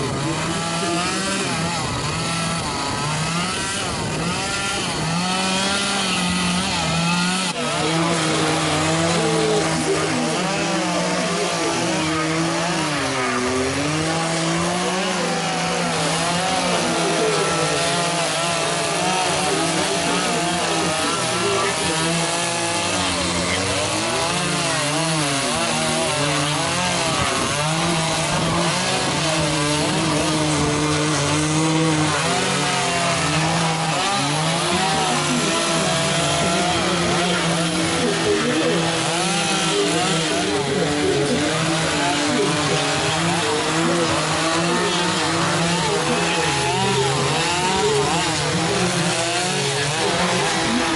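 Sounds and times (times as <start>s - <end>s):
chainsaw revving in wood: 0.0s - 50.9s.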